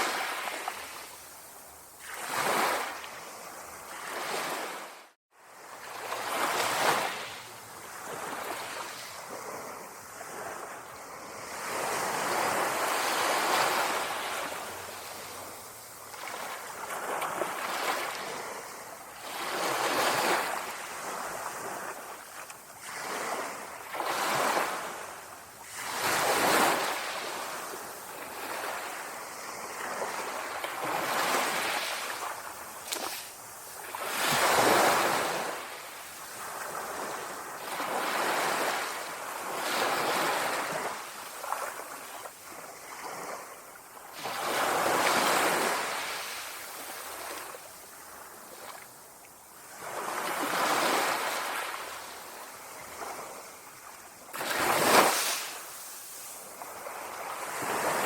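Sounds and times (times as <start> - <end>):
small waves lapping on shore: 0.0 - 58.0.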